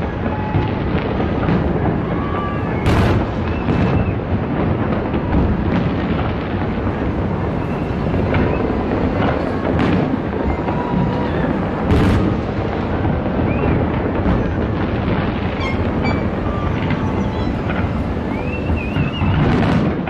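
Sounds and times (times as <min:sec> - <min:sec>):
distant fireworks booming and crackling: 0:00.0 - 0:20.0
sharp firework bangs: 0:00.0 - 0:20.0.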